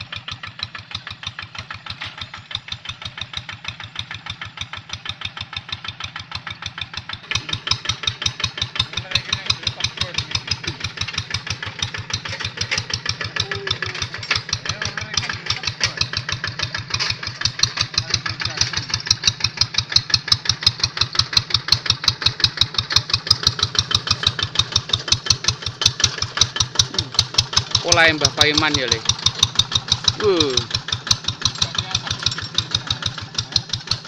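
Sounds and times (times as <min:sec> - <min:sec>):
diesel engine fast firing beat: 0:00.0 - 0:34.0.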